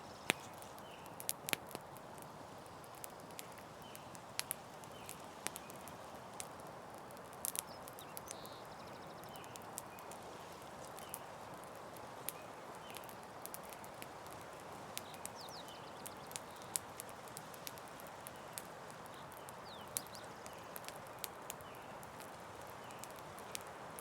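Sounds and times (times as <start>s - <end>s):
soft hiss of flame: 0.0s - 24.0s
wood pops and crackles: 0.1s - 24.0s.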